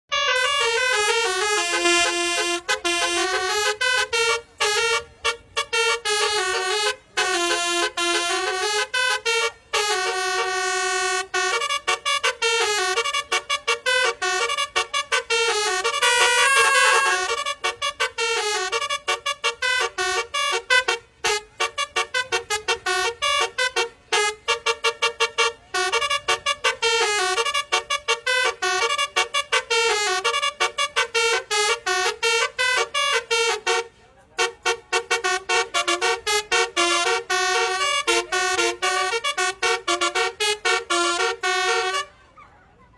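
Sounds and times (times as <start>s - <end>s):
bus horn playing a melody: 0.1s - 42.4s.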